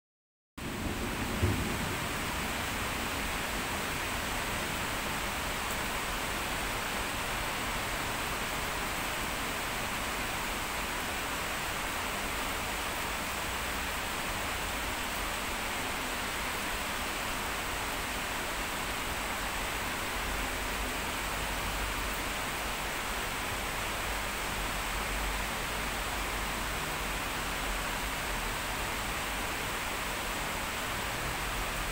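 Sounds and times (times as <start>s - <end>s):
heavy rain pouring: 0.6s - 31.9s.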